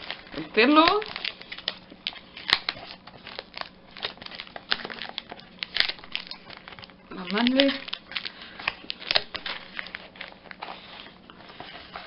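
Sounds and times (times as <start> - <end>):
cardboard and wrapping crinkling: 0.0 - 12.0.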